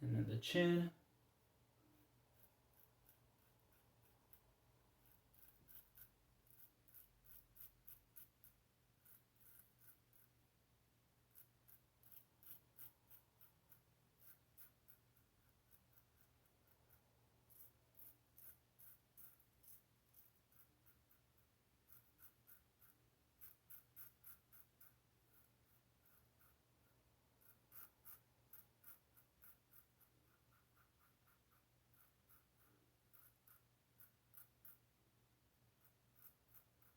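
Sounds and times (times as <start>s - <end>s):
razor scraping stubble: 2.3s - 10.4s, 11.3s - 26.6s, 27.4s - 34.8s.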